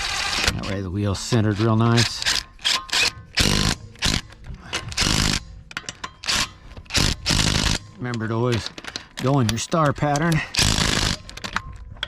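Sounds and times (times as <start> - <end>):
impact wrench bursts: 0.0 - 0.6, 1.3 - 11.6.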